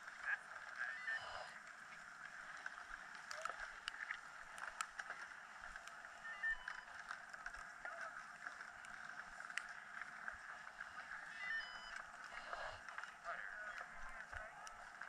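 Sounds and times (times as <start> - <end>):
skis and poles clicking: 0.0 - 15.0.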